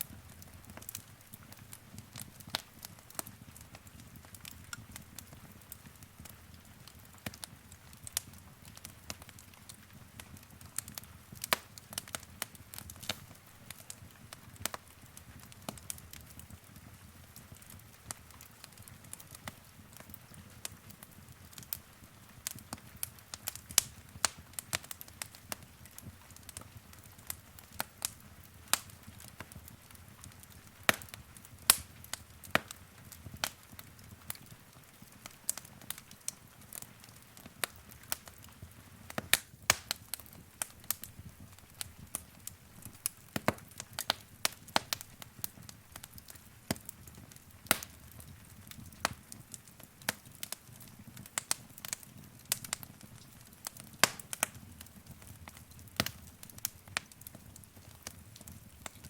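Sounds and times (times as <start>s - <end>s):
low rumble of burning logs: 0.0s - 59.0s
wood fire crackling: 0.0s - 59.0s.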